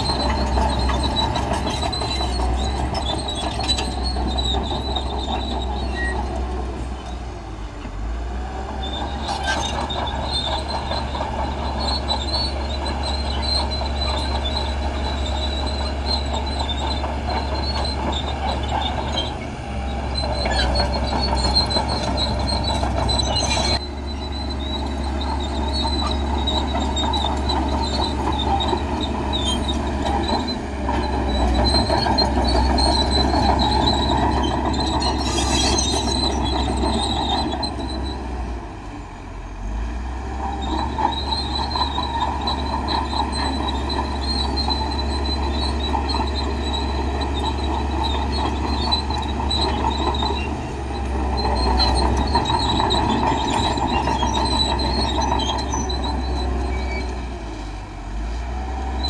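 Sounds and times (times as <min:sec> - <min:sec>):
steel tracks squealing: 0:00.0 - 0:39.0, 0:39.6 - 0:59.0
bulldozer diesel engine under load: 0:00.0 - 0:59.0.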